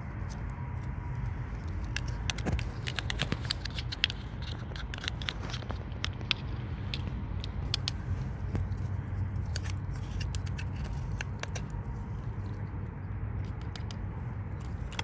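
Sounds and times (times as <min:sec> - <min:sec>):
cat licking and chewing: 0:00.0 - 0:15.0.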